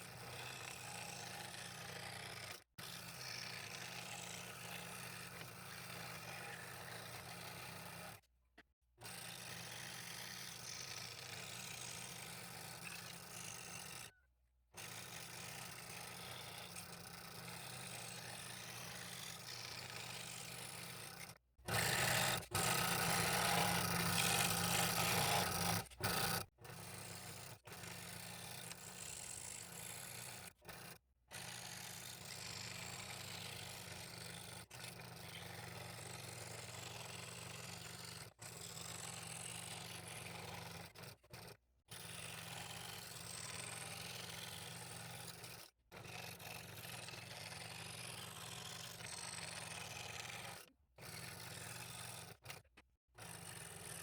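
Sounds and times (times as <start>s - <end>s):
scroll saw cutting wood: 0.0s - 8.3s, 9.0s - 14.2s, 14.8s - 54.0s.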